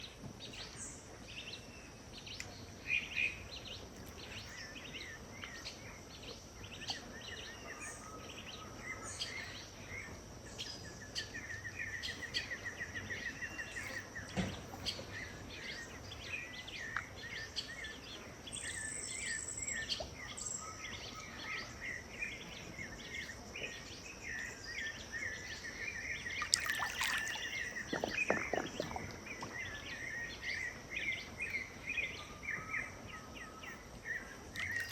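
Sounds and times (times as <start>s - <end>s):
birds calling and singing: 0.0s - 34.9s.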